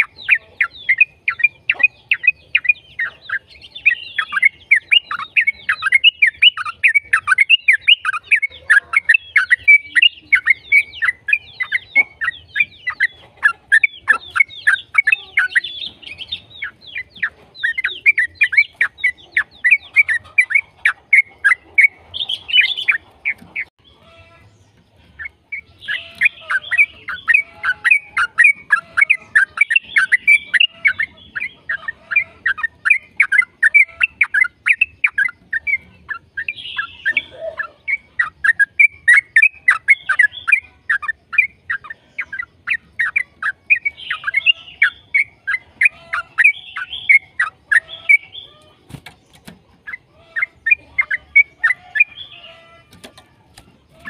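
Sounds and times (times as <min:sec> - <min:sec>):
bird chirping song: 0:00.0 - 0:54.0.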